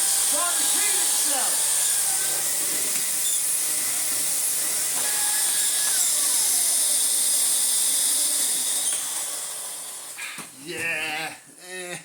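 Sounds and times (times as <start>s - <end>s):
vacuum cleaner running: 0.0s - 10.2s.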